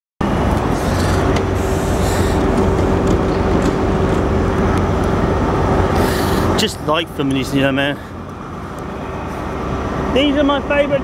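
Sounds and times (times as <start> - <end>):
train wheels rumbling on rail: 0.2 - 11.0.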